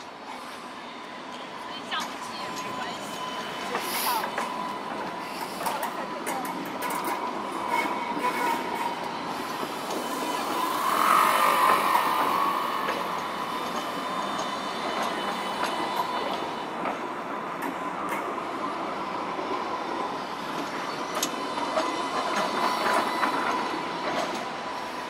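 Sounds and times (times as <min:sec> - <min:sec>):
tram motor whine: 0:00.0 - 0:25.0
wheels rolling on rails: 0:01.3 - 0:18.4, 0:19.4 - 0:25.0.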